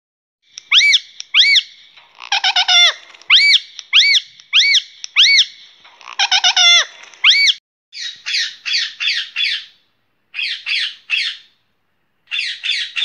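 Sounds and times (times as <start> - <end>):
parakeet screeching: 0.7 - 11.5, 12.3 - 13.0.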